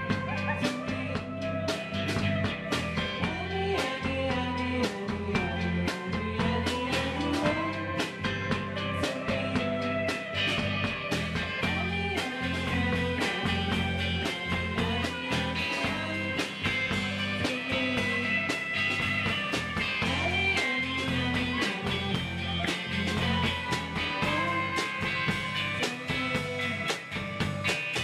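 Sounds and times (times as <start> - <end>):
drum kit beating fast rhythm: 0.0 - 28.0
electric guitar: 0.0 - 28.0.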